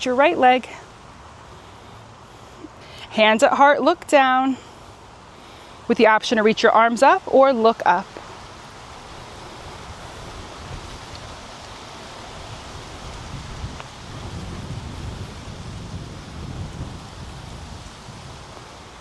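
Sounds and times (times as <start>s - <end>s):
wind gusting across microphone: 0.0s - 19.0s.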